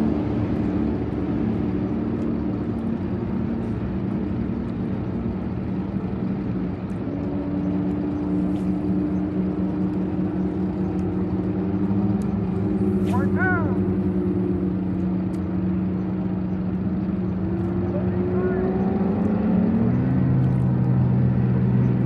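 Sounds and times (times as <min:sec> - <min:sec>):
higher engine note: 0:00.0 - 0:22.0
outboard motors droning: 0:00.0 - 0:22.0.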